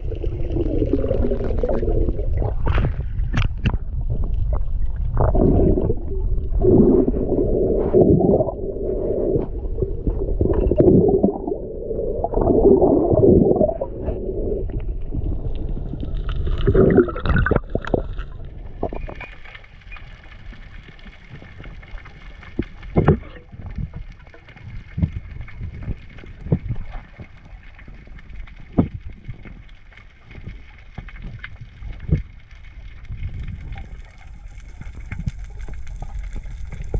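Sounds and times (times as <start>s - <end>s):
muffled underwater gurgling: 0.0s - 20.5s, 21.1s - 36.9s
underwater clicks: 0.4s - 6.1s, 12.2s - 36.9s.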